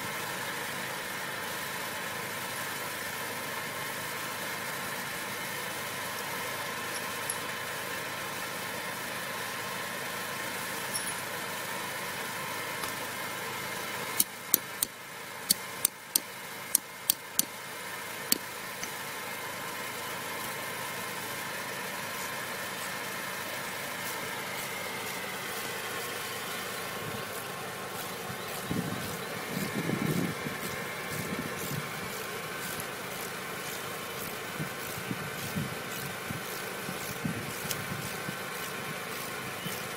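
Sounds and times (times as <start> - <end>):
engine hum: 0.0 - 39.9.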